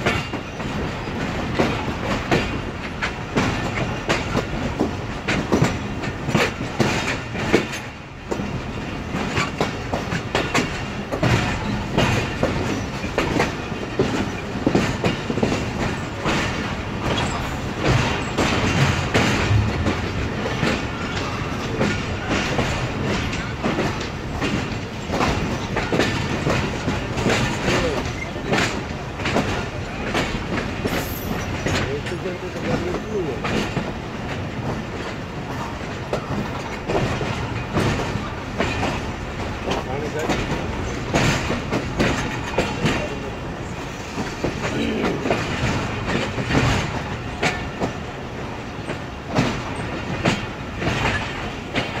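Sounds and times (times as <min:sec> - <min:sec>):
train coaches rumbling: 0:00.0 - 0:52.0
wheels clicking over rail joints: 0:00.0 - 0:52.0.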